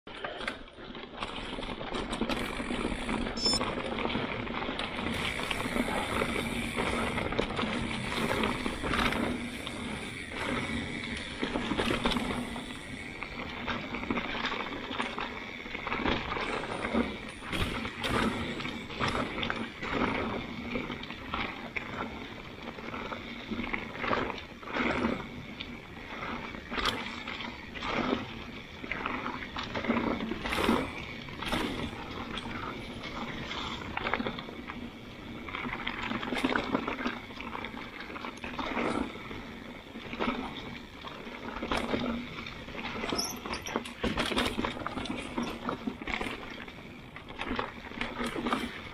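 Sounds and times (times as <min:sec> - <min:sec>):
bike rattling over bumps: 0:00.1 - 0:48.9
bike tyres rolling over leaves: 0:00.1 - 0:48.9.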